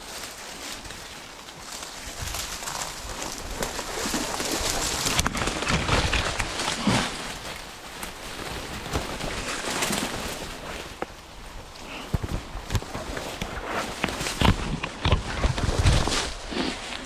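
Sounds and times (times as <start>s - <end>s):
footsteps crunching in dry leaves: 0.0s - 14.4s
twigs scraping and crackling: 0.0s - 17.0s.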